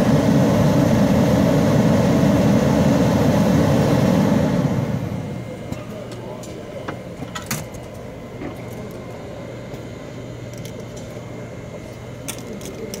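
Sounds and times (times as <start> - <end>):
blower fan humming: 0.0 - 13.0.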